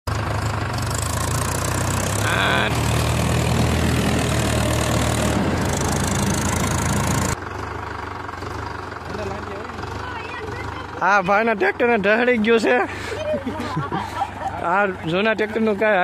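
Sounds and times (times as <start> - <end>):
tractor diesel engines under load: 0.0 - 16.0
tyres churning dirt and gravel: 0.1 - 16.0.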